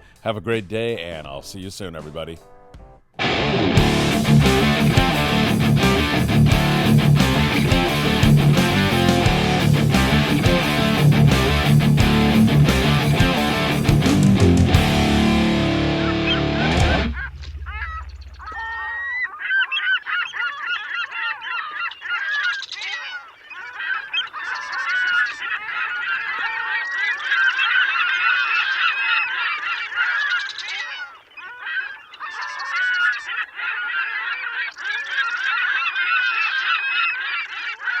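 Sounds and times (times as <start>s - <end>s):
birds honking calls: 3.4s - 38.0s.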